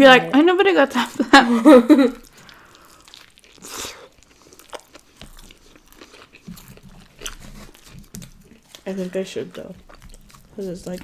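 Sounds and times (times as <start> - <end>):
chewing and crunching food: 2.1 - 11.0.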